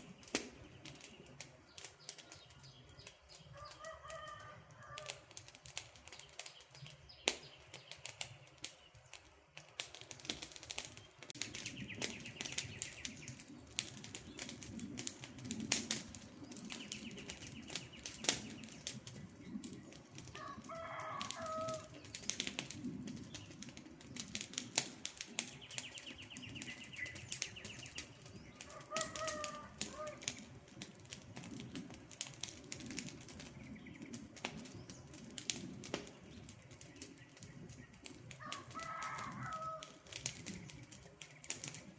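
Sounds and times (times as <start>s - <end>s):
birds calling: 0.0s - 5.4s, 10.8s - 24.5s, 25.2s - 31.9s, 32.6s - 41.9s
campfire crackling and popping: 0.0s - 41.9s.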